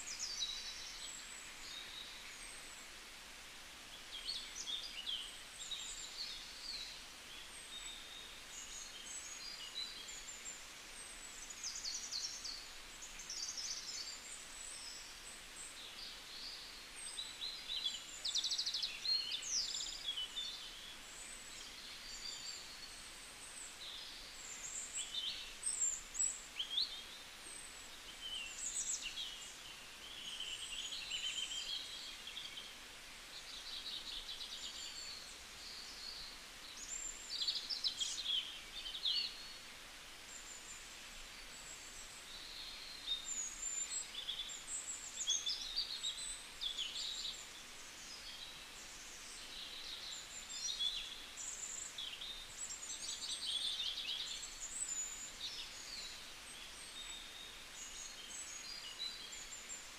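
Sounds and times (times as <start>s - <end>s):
small birds chirping: 3.9s - 59.9s.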